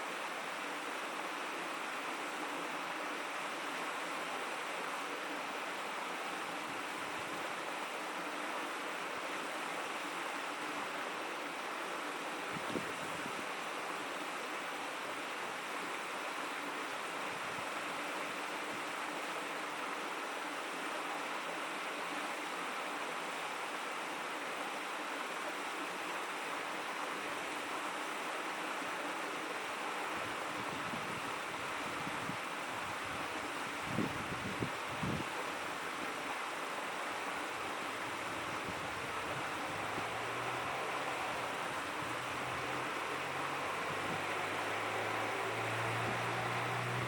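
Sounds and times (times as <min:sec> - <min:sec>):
stream babbling: 0:00.0 - 0:47.0.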